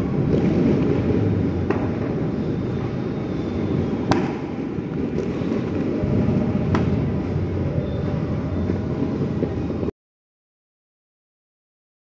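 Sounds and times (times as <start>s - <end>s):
firework bang: 0.0s - 9.9s
low rumble: 0.0s - 9.9s.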